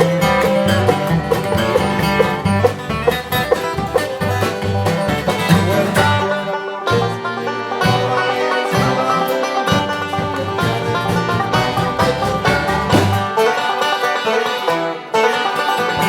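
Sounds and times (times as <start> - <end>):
bass line: 0.0 - 13.4
banjo picking: 0.0 - 16.0
guitar picking: 0.0 - 16.0.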